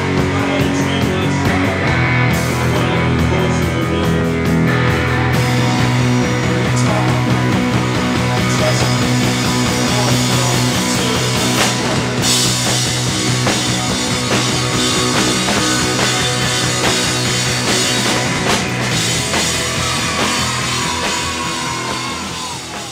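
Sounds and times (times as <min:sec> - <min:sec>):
punk rock band playing: 0:00.0 - 0:22.9.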